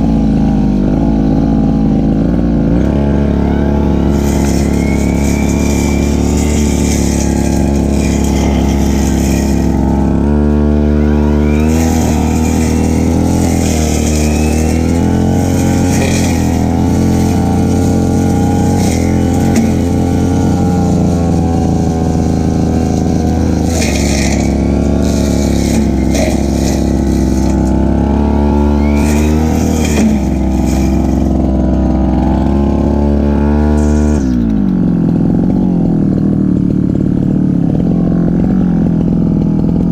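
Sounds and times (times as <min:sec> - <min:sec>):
brushcutter engine cutting grass: 0:00.0 - 0:39.9.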